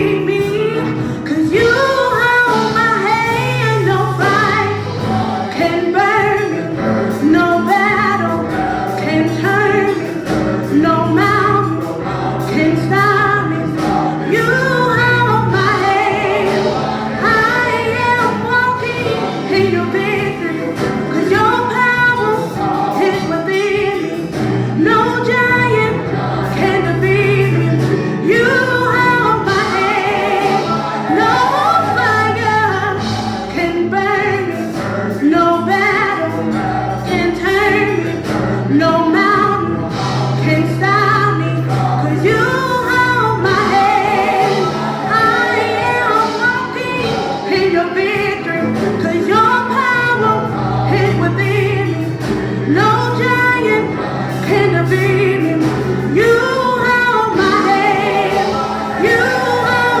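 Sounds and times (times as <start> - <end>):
instrumental accompaniment: 0.0 - 60.0
voices singing gospel song: 0.0 - 60.0.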